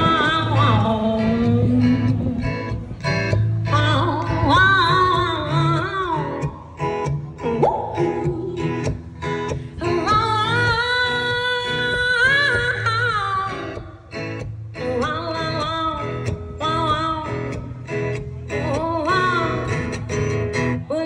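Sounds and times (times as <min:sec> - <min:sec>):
acoustic guitar: 0:00.0 - 0:21.0
woman singing blues: 0:00.0 - 0:21.0.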